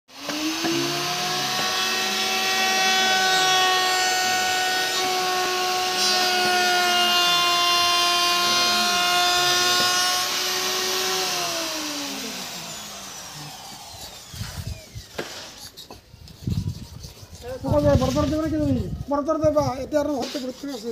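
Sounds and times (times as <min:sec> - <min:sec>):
power tool motor whining: 0:00.1 - 0:17.4.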